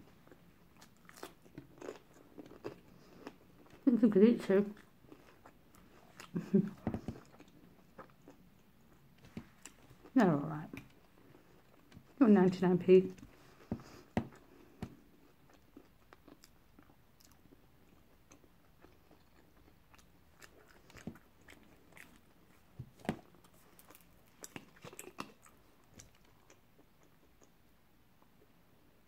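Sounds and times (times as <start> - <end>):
person chewing and eating: 0.2 - 3.8, 4.8 - 12.2, 13.2 - 27.7.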